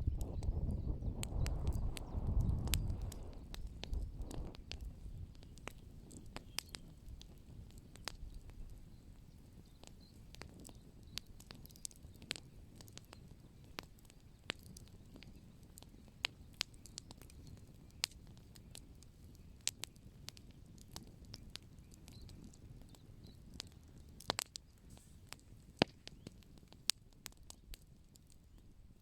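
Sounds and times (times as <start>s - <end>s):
low rumble of burning: 0.0s - 29.0s
wood fire crackling: 0.0s - 29.0s.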